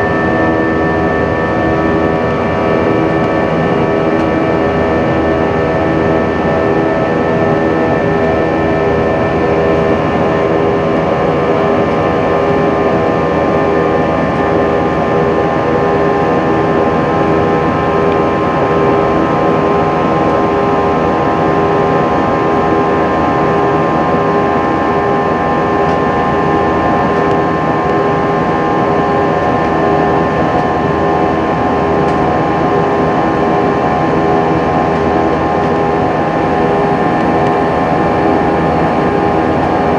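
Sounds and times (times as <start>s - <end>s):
rush of engines and airflow: 0.0s - 39.9s.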